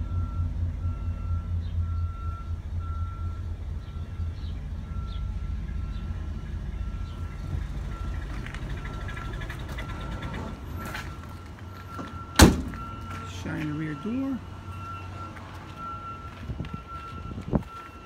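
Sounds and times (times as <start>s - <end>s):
car engine idling: 0.0s - 15.8s.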